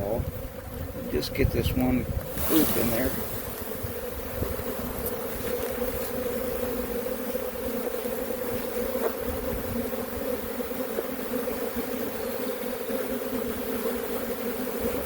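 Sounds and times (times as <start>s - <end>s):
bee swarm buzzing: 0.0s - 15.0s.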